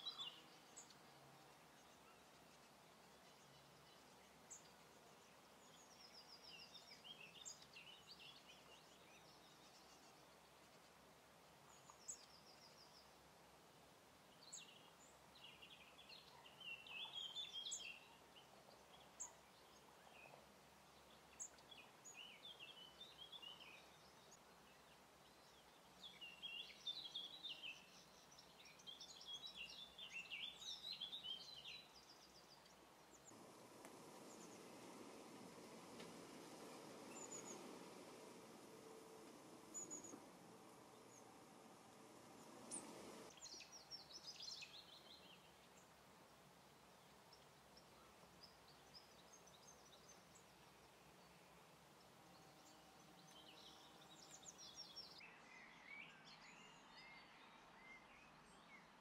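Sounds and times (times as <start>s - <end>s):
finch twittering song: 0.0s - 11.0s, 14.3s - 46.4s, 47.0s - 59.0s
faint steady hiss: 0.0s - 59.0s.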